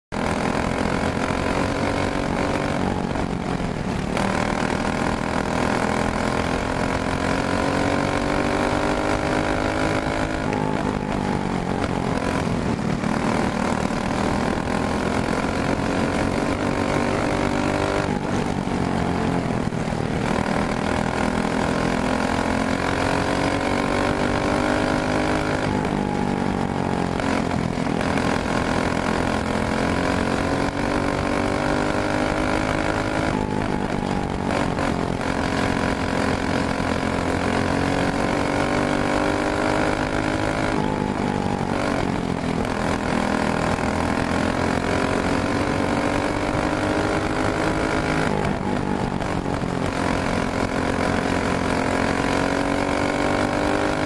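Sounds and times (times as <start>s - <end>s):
kart engine revving: 0.1s - 54.0s.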